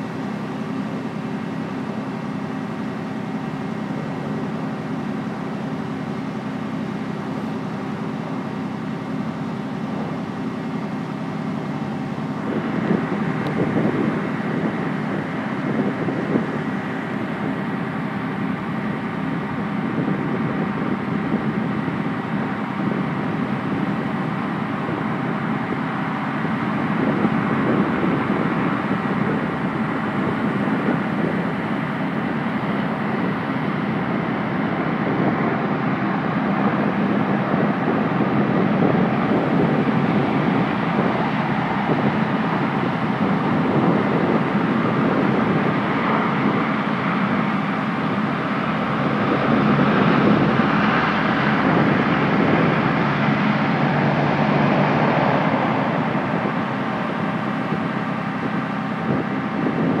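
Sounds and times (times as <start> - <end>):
armored vehicle driving on sand: 0.0 - 60.0.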